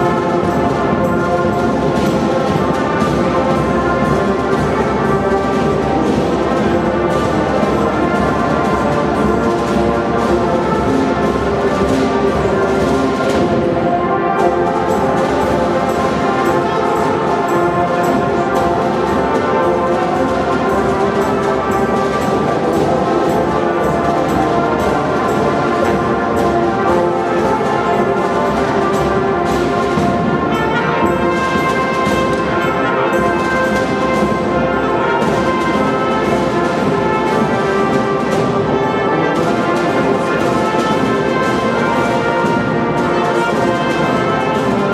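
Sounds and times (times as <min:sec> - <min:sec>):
brass horns sustained chords: 0:00.0 - 0:44.9
marching band playing: 0:00.0 - 0:44.9
snare and bass drums: 0:00.0 - 0:44.9.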